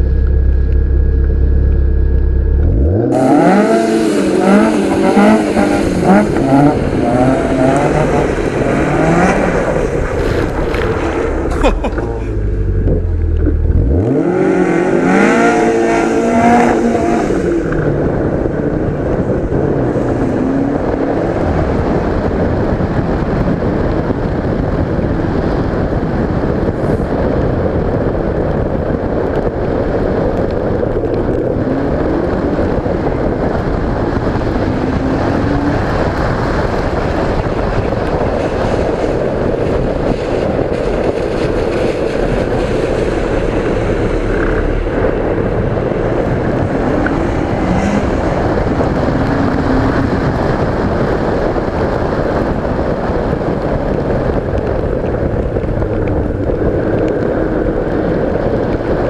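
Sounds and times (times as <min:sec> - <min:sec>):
car engine revving: 0:00.0 - 0:22.8, 0:29.2 - 0:59.0
loud rush of noise: 0:00.0 - 0:59.0.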